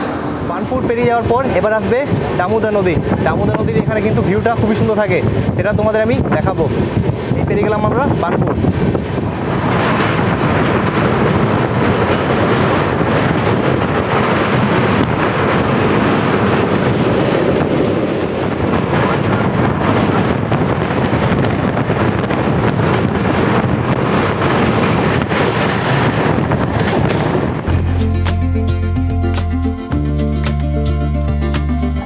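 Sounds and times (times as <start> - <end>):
train wheels running on rails: 0.0 - 28.0.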